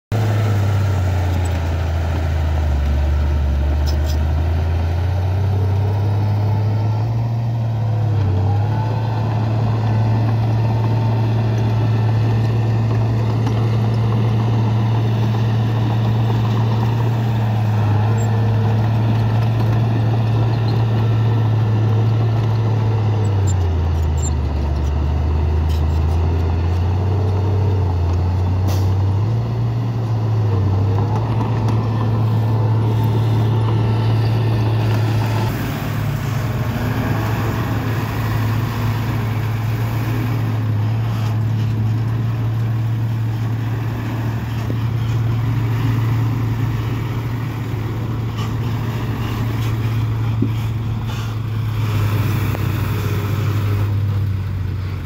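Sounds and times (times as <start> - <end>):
bulldozer diesel engine running: 0.1 - 55.0.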